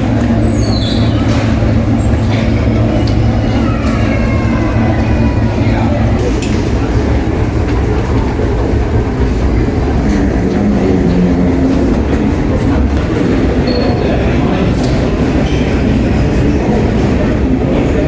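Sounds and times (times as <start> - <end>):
aircraft cabin rumble: 0.0 - 17.0
faint voices: 0.0 - 18.0.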